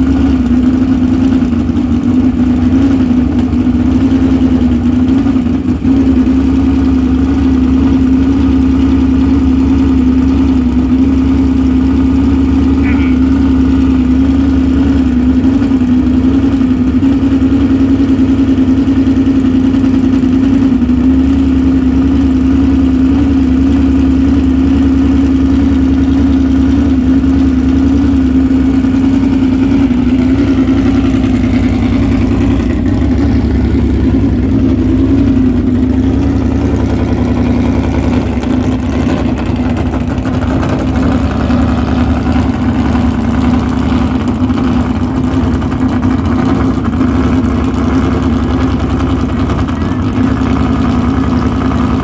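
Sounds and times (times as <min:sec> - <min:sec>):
car engine running: 0:00.0 - 0:52.0.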